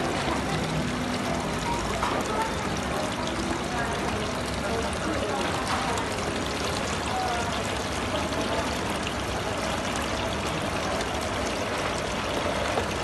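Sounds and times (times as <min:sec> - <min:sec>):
fountain water splashing into pool: 0:00.0 - 0:13.0.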